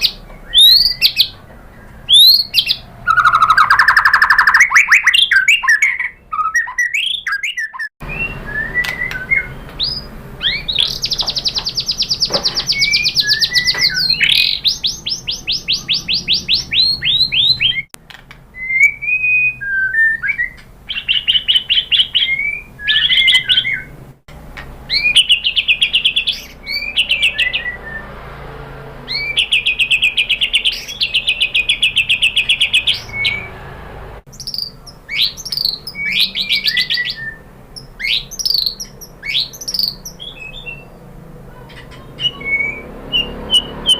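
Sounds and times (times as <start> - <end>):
bird whistled song: 0.0 - 17.9, 18.5 - 24.0, 24.9 - 28.4, 29.0 - 33.6, 34.3 - 41.0, 41.8 - 43.9.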